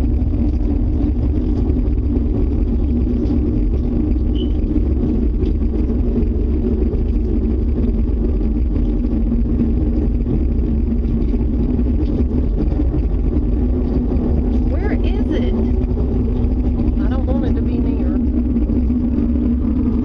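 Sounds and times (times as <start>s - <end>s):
droning hum: 0.0s - 20.0s
loud low rumble: 0.0s - 20.0s.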